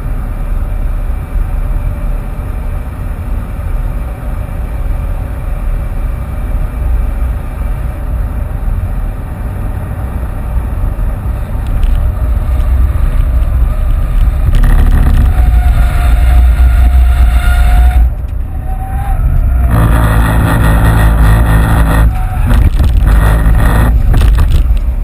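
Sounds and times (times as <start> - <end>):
diesel engine under load: 0.0 - 25.0
road and wind rumble: 0.0 - 25.0.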